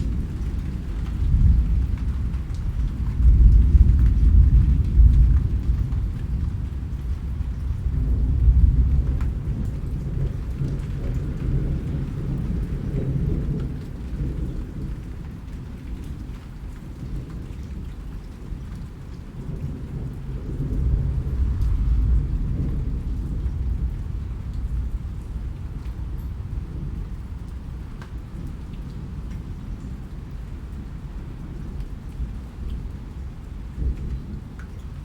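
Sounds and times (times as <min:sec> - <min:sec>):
deep rolling thunder: 0:00.0 - 0:34.6
rain falling steadily: 0:00.0 - 0:35.0.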